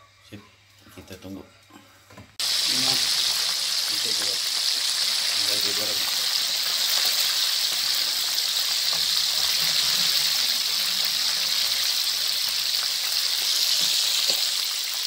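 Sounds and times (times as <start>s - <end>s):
fish sizzling in hot oil: 2.4s - 15.0s.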